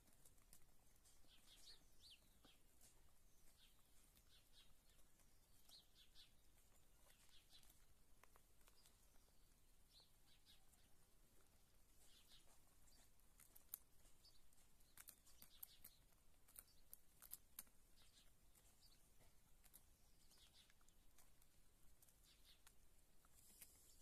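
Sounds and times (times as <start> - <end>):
beaks tapping on concrete: 0.0 - 24.0.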